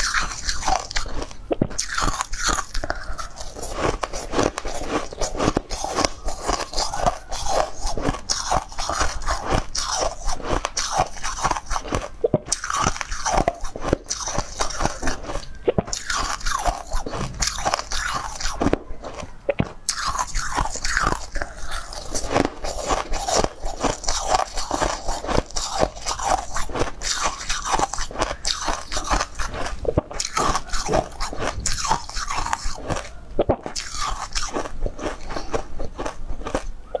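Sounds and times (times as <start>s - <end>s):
crunching and chewing frozen food: 0.0s - 37.0s.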